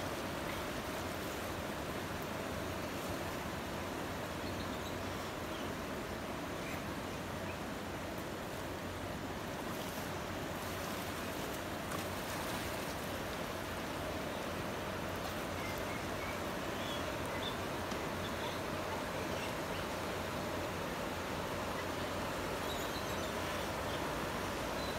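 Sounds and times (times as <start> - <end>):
river rushing over rocks: 0.0 - 24.9.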